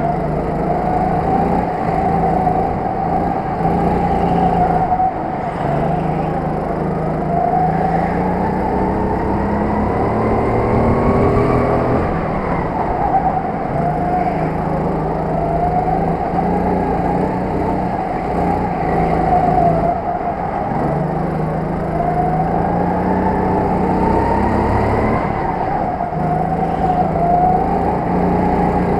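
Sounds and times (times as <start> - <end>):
go-kart engine revving: 0.0 - 28.9.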